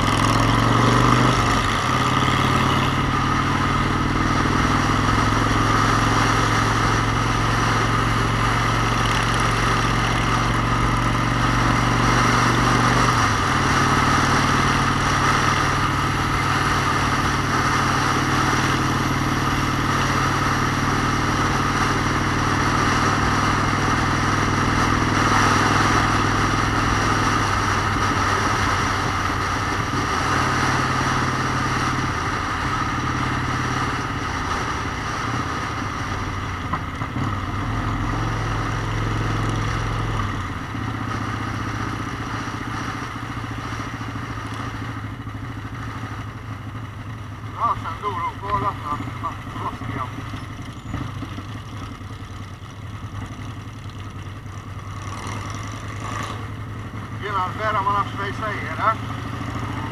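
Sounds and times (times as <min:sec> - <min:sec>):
motorcycle engine running: 0:00.0 - 0:59.9
road and wind rush: 0:00.0 - 0:59.9.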